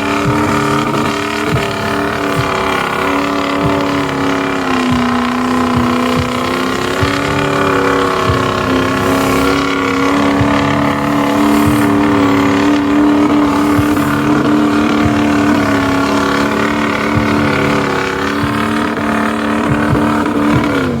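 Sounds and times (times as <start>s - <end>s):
truck engine at high revs: 0.0s - 21.0s.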